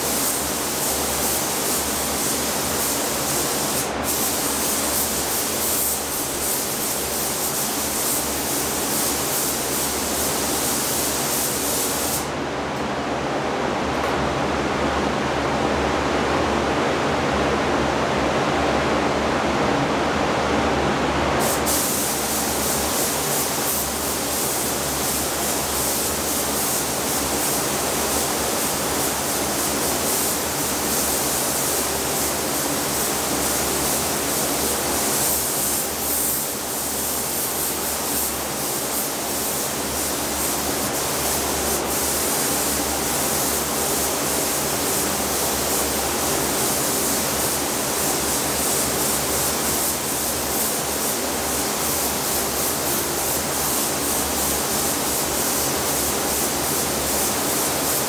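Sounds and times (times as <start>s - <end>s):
spray gun hissing: 0.0s - 12.3s, 21.4s - 58.0s
booth air flow hum: 0.0s - 58.0s.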